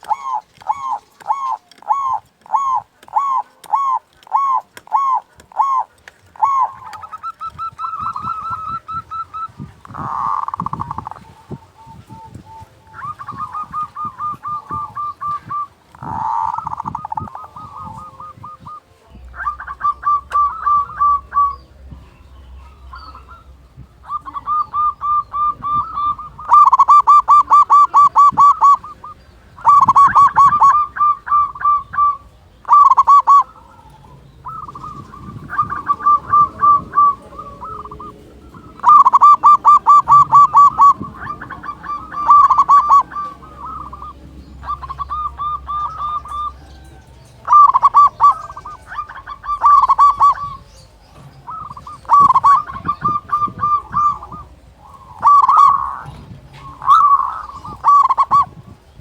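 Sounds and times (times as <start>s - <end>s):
dove rapid staccato cooing: 0.0s - 59.0s.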